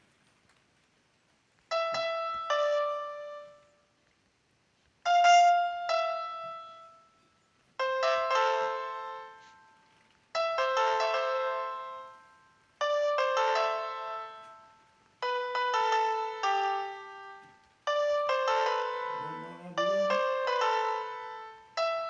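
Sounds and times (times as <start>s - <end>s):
piano-like keyboard notes: 1.7s - 3.8s, 5.1s - 7.2s, 7.8s - 22.0s.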